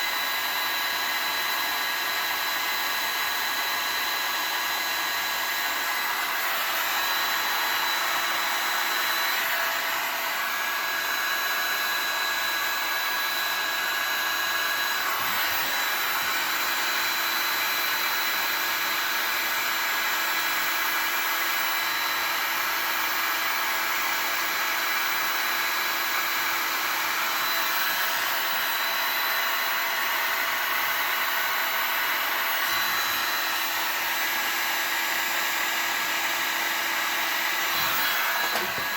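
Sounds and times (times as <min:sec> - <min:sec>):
heat gun blowing: 0:00.0 - 0:38.9.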